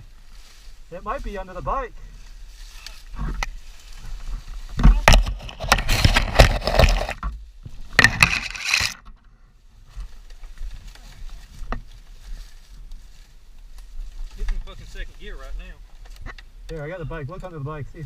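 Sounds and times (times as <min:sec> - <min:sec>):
scraping and rustling in brush: 0:00.0 - 0:09.0, 0:09.7 - 0:17.6.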